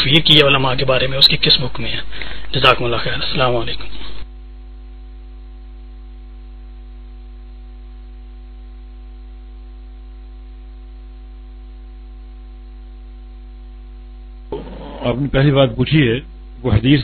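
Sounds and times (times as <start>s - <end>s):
electrical hum and hiss: 0.0s - 17.0s
faint constant tones: 0.0s - 17.0s.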